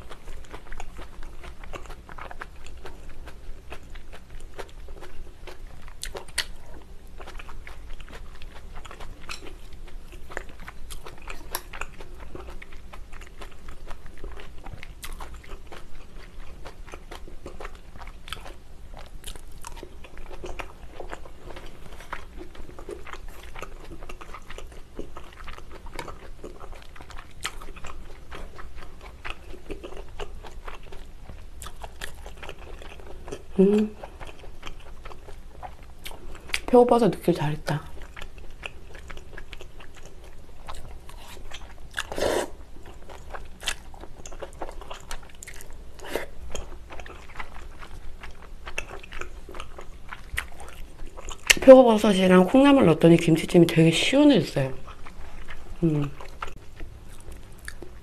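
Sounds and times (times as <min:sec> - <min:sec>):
person chewing food: 0:00.0 - 0:36.7, 0:37.9 - 0:51.6, 0:54.7 - 0:58.0.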